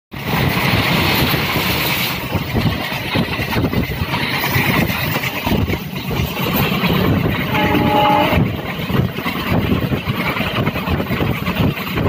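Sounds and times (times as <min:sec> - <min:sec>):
train wheels rumbling on rails: 0:00.1 - 0:12.0.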